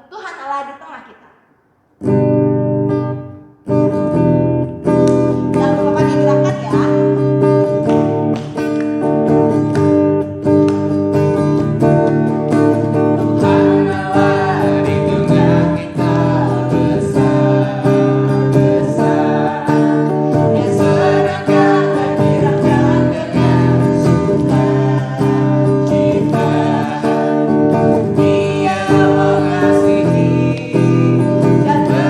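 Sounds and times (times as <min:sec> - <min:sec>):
acoustic guitar strumming: 0:01.9 - 0:32.0.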